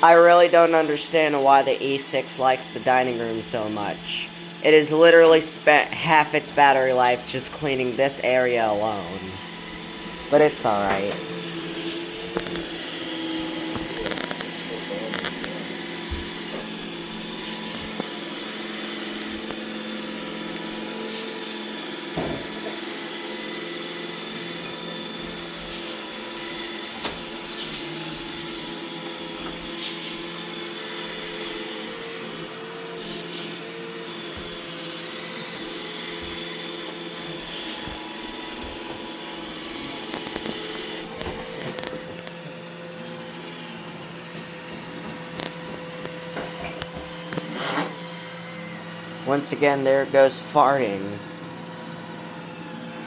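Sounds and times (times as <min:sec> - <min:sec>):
robot vacuum running: 0:00.0 - 0:53.0.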